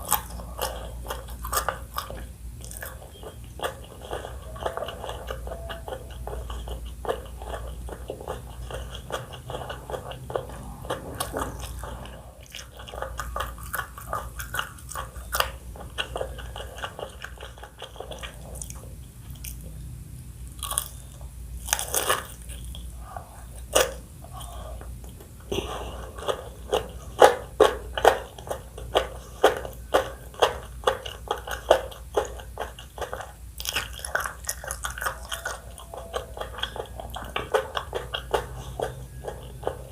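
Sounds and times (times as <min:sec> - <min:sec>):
person chewing crunchy food: 0:00.0 - 0:19.8, 0:20.4 - 0:39.9.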